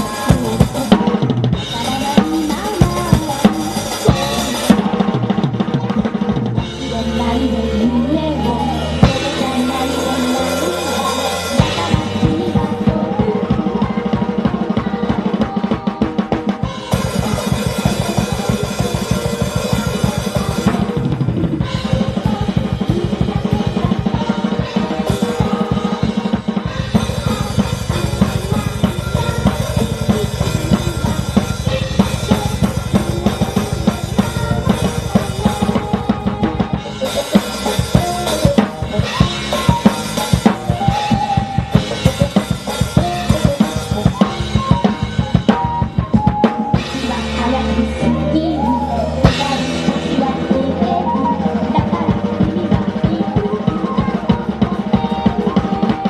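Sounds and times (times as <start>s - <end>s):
drum kit played fast: 0.0s - 56.0s
recorded music: 0.0s - 56.0s.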